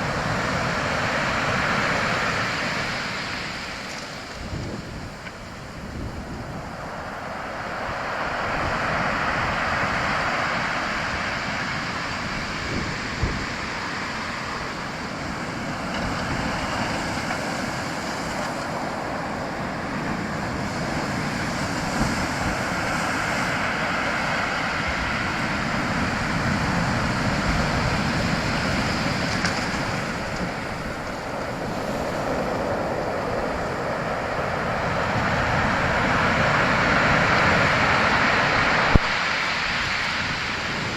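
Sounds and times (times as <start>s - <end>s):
rushing water: 0.0s - 40.9s
wind buffeting microphone: 0.0s - 40.9s.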